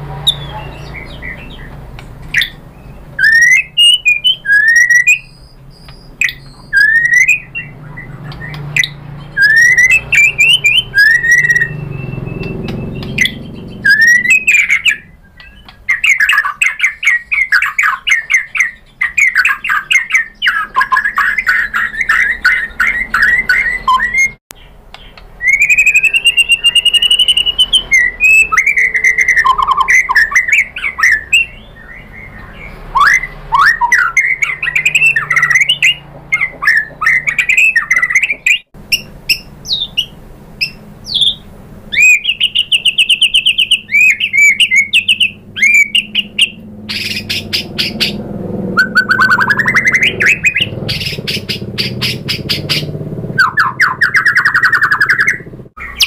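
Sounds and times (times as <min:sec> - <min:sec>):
songbird singing varied song: 0:00.1 - 0:56.0.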